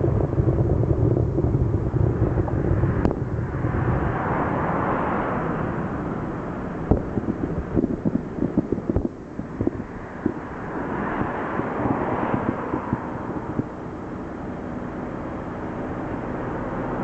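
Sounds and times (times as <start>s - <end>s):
distant fireworks rumble: 0.0s - 15.3s.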